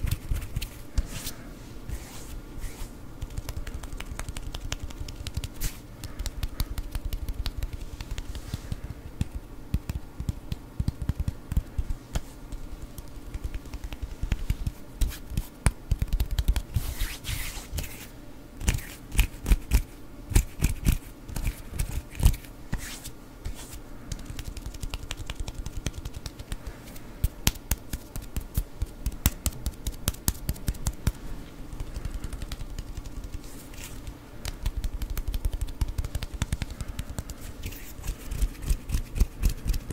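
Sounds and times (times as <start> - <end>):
hands rubbing together: 0.0 - 18.1, 18.7 - 39.9.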